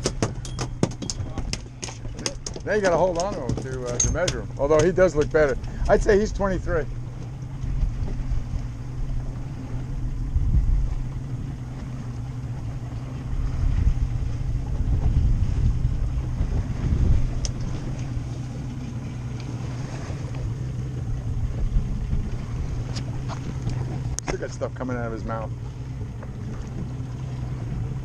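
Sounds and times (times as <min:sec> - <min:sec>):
outboard motor humming: 0:00.0 - 0:28.0
wind buffeting microphone: 0:00.0 - 0:28.0.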